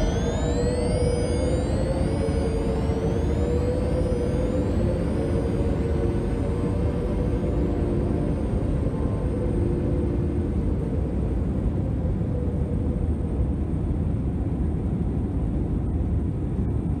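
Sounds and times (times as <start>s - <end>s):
faint engine whine: 0.0s - 17.0s.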